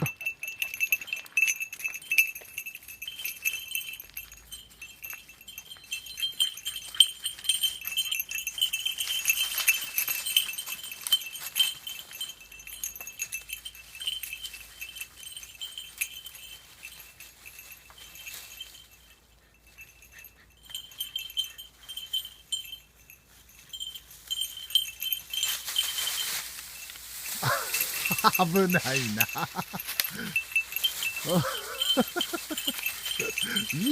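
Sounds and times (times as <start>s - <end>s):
small bell jingling: 0.0s - 33.9s.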